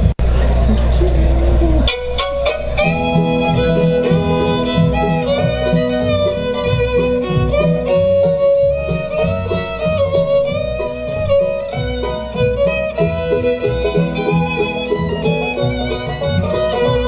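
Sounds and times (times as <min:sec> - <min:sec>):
bluegrass band playing: 0:00.0 - 0:17.0
fiddle melody: 0:00.2 - 0:17.0.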